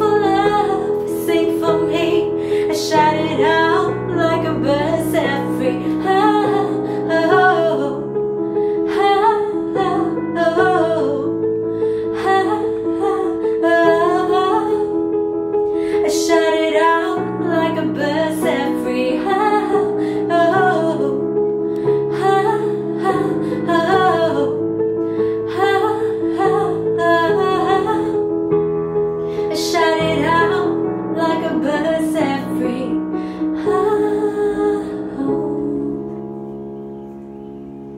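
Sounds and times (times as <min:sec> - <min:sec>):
woman singing: 0:00.0 - 0:15.2, 0:15.8 - 0:28.4, 0:29.3 - 0:36.4
piano chords: 0:00.0 - 0:37.9.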